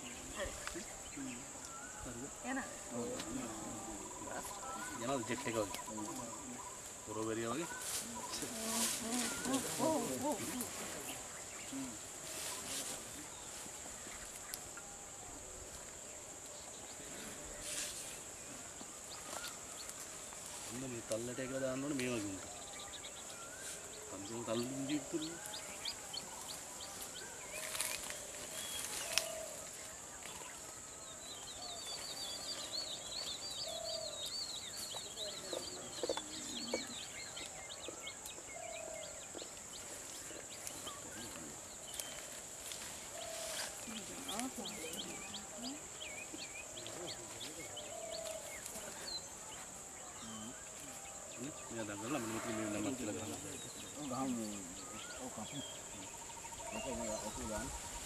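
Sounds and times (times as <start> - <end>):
insect chirring: 0.0 - 47.1.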